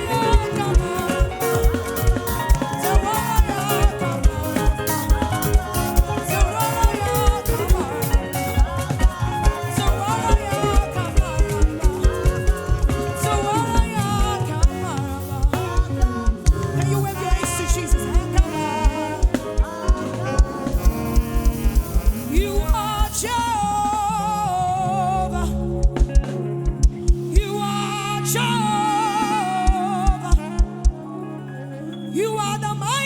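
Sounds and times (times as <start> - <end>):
person singing melodic vocal line: 0.0 - 26.6, 27.2 - 33.0
bass: 0.0 - 33.0
keyboard chords: 0.0 - 33.0.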